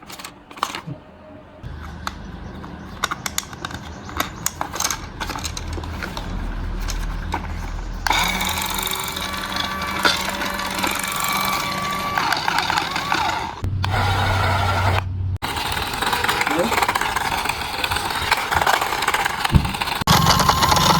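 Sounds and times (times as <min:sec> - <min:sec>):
toy car electric motor whirring: 0:00.0 - 0:00.9, 0:01.6 - 0:20.9.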